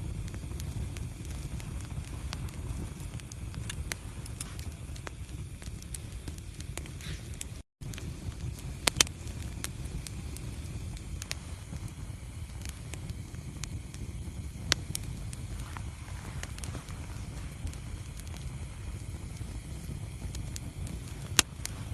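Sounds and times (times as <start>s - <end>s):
fire crackling: 0.0s - 21.9s
fire rumbling: 0.0s - 21.9s
sharp pops of fire: 0.0s - 21.9s.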